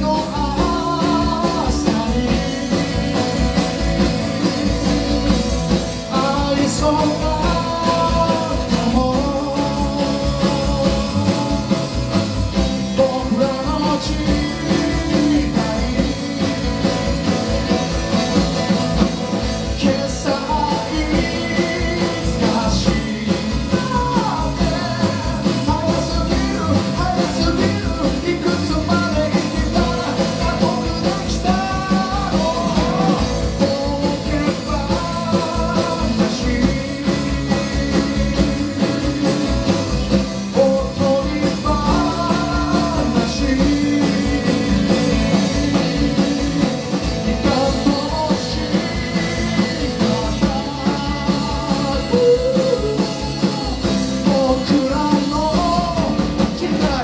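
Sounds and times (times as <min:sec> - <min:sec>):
bass guitar: 0:00.0 - 0:57.0
electric guitar: 0:00.0 - 0:57.0
man singing lead: 0:00.0 - 0:57.0
steady drum beat: 0:00.0 - 0:57.0
strummed acoustic guitars: 0:00.0 - 0:57.0.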